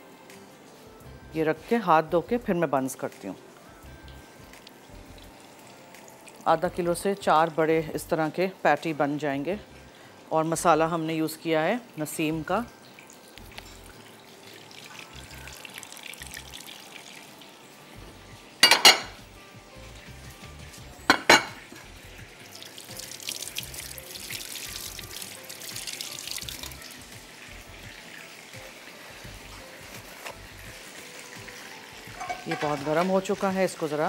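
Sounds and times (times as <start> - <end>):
patties sizzling in hot oil: 0.0 - 11.4, 12.0 - 34.0.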